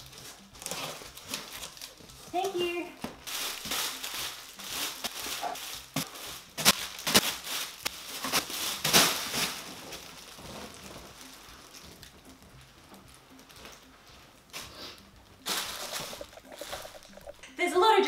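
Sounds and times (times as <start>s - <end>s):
plastic packaging crinkling: 0.0s - 14.7s, 15.3s - 17.4s
sharp plastic crackles: 0.0s - 17.4s.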